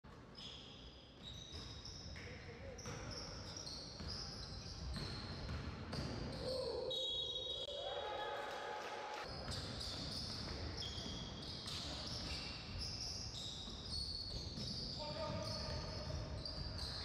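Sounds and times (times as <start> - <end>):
sneakers squeaking on floor: 0.1 - 7.7, 9.2 - 17.0.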